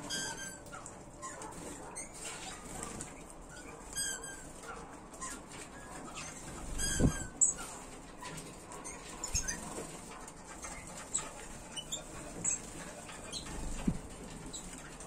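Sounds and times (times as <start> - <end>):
wings fluttering: 0.0 - 15.0.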